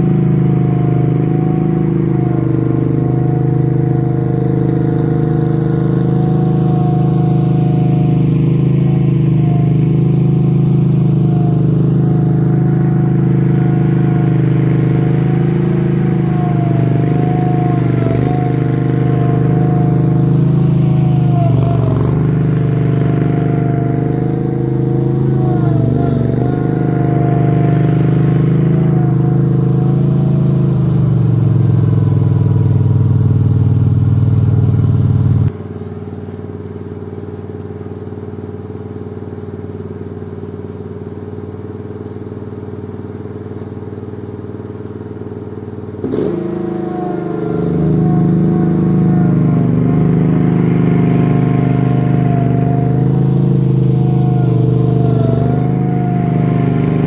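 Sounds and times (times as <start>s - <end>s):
roller engine running: 0.0s - 57.0s.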